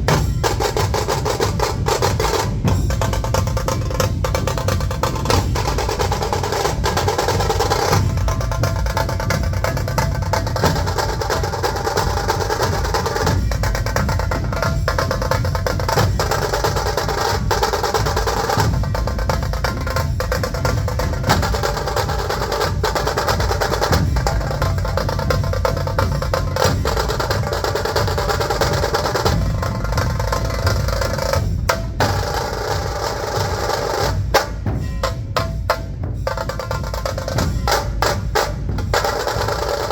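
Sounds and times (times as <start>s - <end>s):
bass drums beating: 0.0s - 39.9s
rapid snare-like drum rolls: 0.0s - 39.9s.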